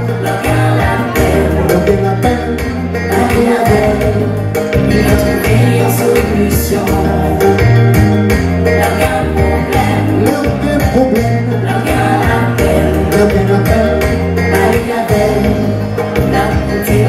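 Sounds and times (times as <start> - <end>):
music with bass and beat: 0.0 - 17.0
vocal group singing: 0.0 - 17.0.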